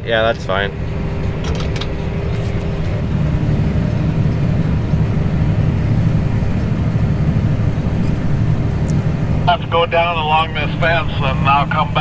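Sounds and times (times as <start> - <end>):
tractor engine rumbling: 0.0 - 12.0
faint steady hum: 0.3 - 12.0.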